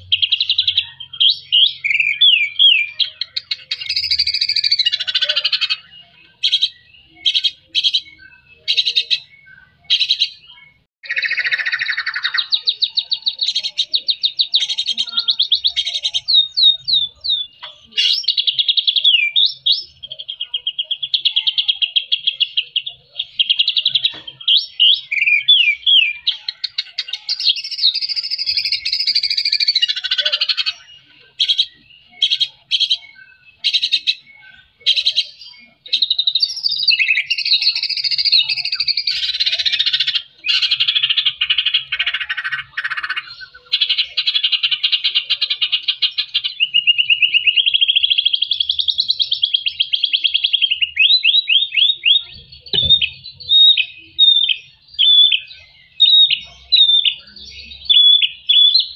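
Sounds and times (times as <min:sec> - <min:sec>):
bird singing trills and whistles: 0:00.0 - 0:58.9.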